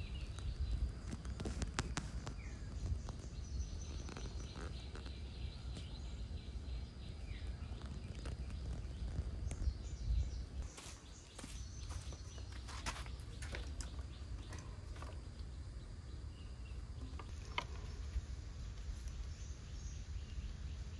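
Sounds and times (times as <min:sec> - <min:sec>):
bird chirps: 0:00.0 - 0:20.9.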